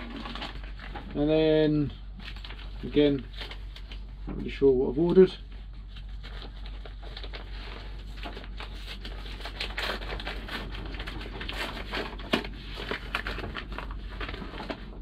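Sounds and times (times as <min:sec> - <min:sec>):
paper packaging crinkling: 0:00.0 - 0:04.2, 0:05.0 - 0:15.0.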